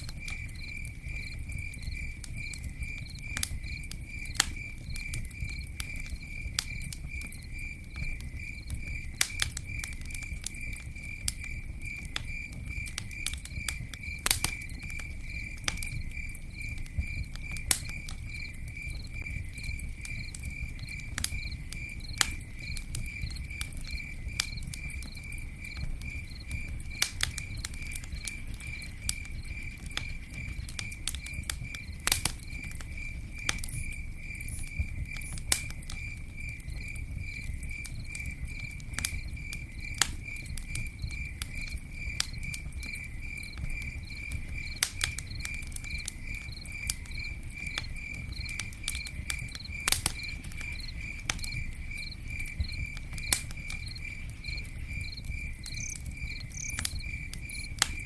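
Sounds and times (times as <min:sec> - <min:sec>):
campfire crackling and popping: 0:00.0 - 0:58.0
cricket chirping: 0:00.0 - 0:58.0
fire low rumble: 0:00.0 - 0:58.0.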